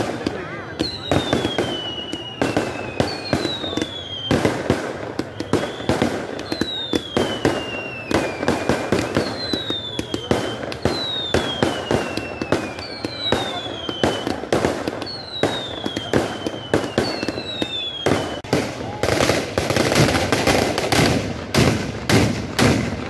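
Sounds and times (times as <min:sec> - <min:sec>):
falling firework whistles: 0:00.0 - 0:23.0
fireworks bangs and crackles: 0:00.0 - 0:23.0.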